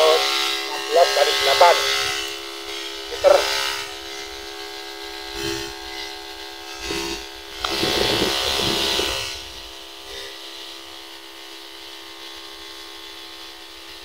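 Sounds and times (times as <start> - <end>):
electric pump motor humming: 0.0 - 14.0
sprayer rushing hiss: 0.0 - 14.0.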